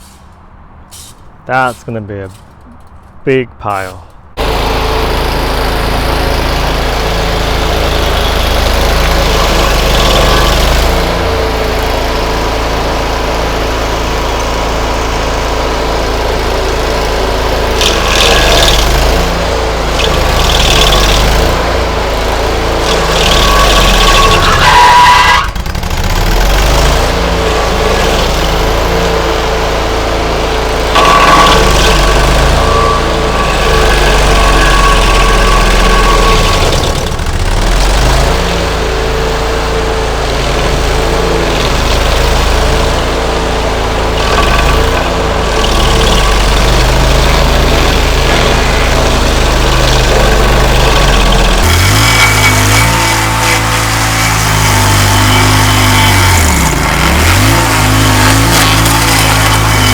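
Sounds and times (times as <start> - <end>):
stump grinder engine grinding: 1.6 - 59.9.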